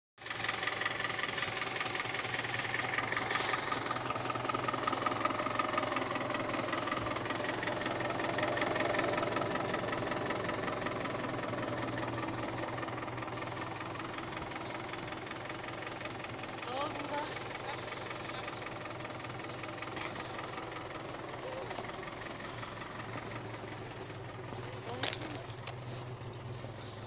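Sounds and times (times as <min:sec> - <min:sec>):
car motor running: 0:00.2 - 0:27.0.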